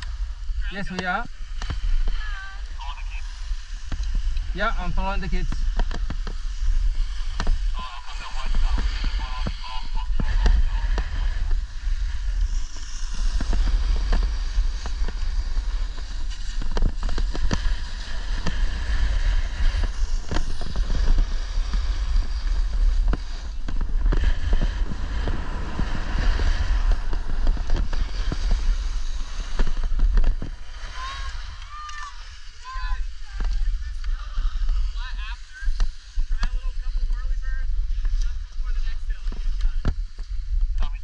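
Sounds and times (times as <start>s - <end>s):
snowboard sliding on snow: 0.0s - 41.0s
wind buffeting microphone: 0.0s - 41.0s.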